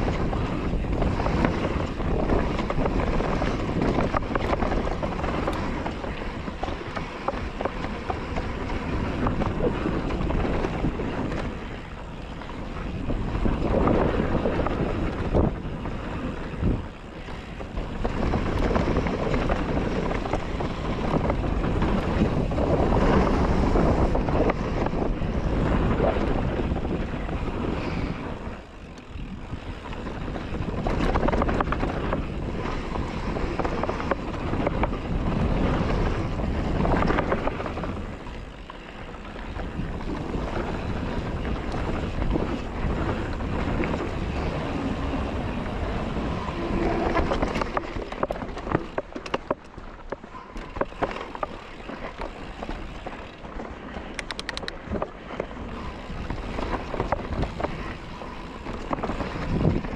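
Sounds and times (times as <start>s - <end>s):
bike clattering and rattling: 0.0s - 59.9s
tyres rolling over gravel: 0.0s - 59.9s
wind buffeting microphone: 0.0s - 59.9s.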